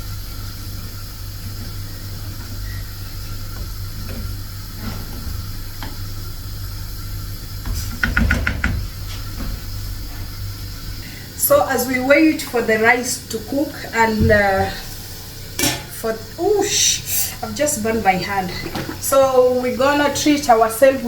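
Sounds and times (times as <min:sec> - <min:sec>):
pot of rice boiling: 0:00.0 - 0:21.0.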